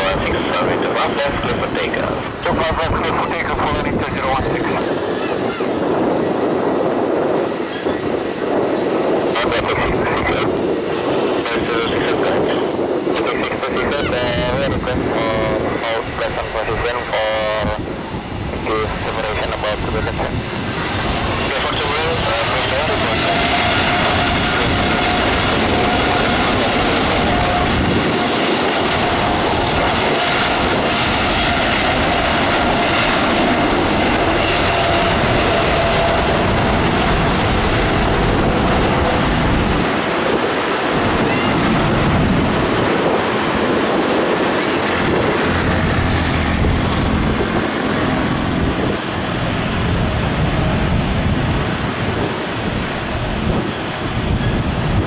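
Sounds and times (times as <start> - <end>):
jet engine rumble: 0.0 - 55.0
jet engine whine: 0.0 - 55.0.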